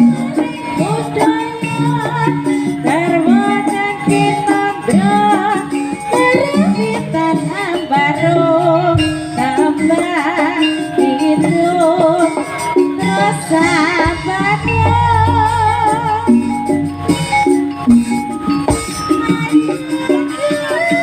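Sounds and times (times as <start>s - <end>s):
live band with bass and percussion: 0.0s - 21.0s
person singing with vibrato: 0.0s - 21.0s.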